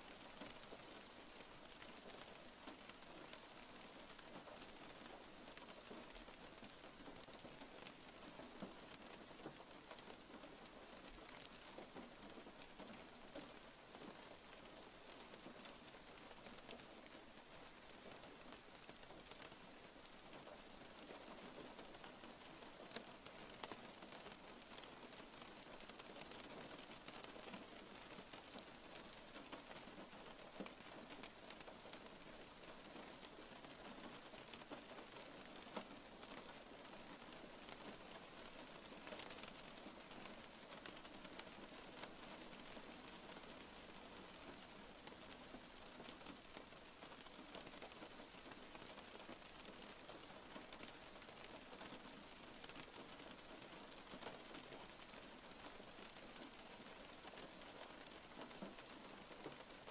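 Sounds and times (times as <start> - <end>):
faint steady rain: 0.0 - 59.9
raindrop ticks: 0.0 - 59.9.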